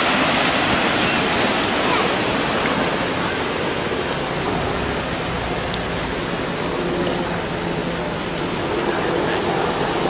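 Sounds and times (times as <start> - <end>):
turbulent water rushing: 0.0 - 10.0.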